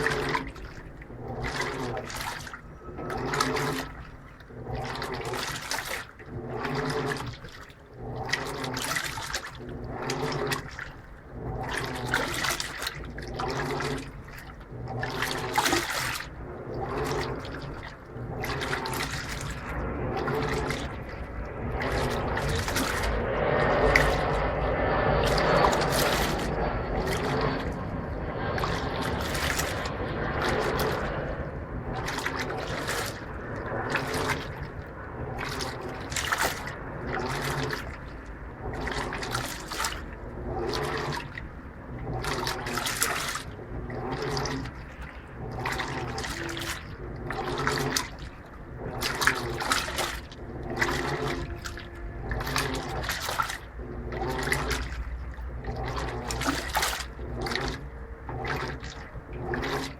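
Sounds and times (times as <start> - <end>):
low rumble: 0.0 - 59.9
washing machine sloshing laundry: 0.0 - 59.9.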